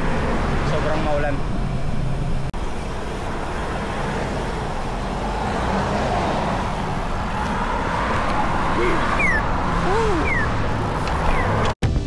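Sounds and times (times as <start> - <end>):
bicycle road noise: 0.0 - 11.8
wind rushing: 1.4 - 11.7.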